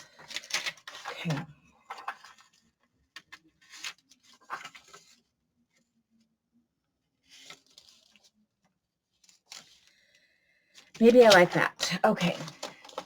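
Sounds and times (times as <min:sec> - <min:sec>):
paper rustling: 0:00.0 - 0:06.0, 0:07.2 - 0:13.0.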